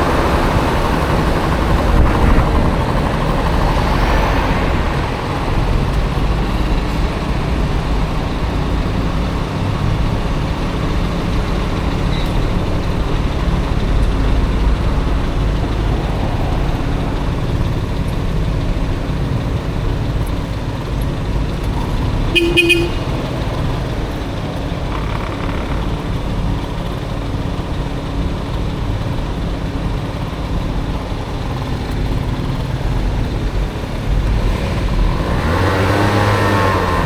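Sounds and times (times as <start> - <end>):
small scooter engine running: 0.0 - 37.0
surrounding traffic: 0.0 - 37.0
wind and road noise: 0.0 - 37.0.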